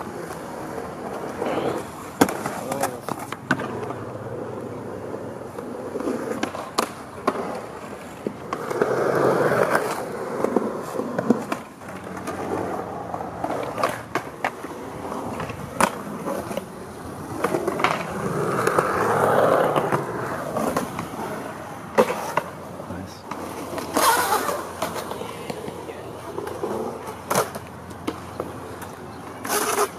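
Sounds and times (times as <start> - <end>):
skateboard wheels rolling on concrete: 0.0 - 29.9
skateboard clacking on ledges: 5.4 - 29.9.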